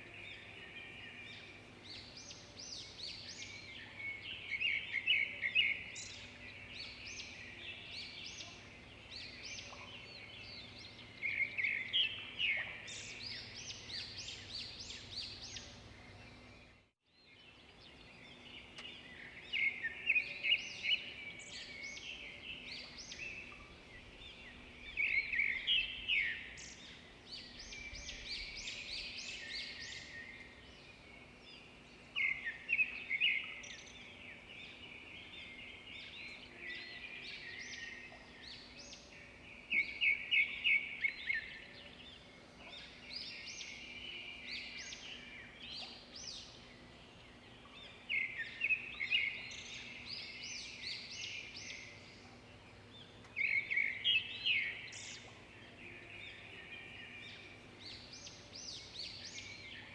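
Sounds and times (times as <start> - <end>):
songbird chirps and trills: 0.0 - 59.9.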